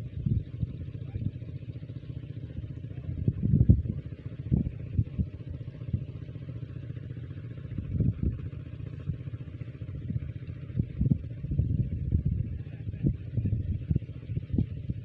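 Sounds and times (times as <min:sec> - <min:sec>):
diesel pump engine throbbing: 0:00.0 - 0:15.0.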